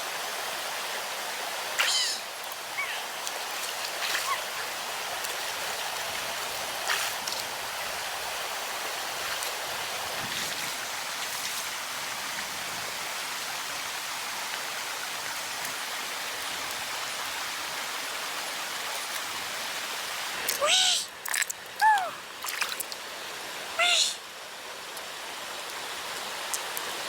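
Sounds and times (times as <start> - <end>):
running water: 0.0 - 27.0.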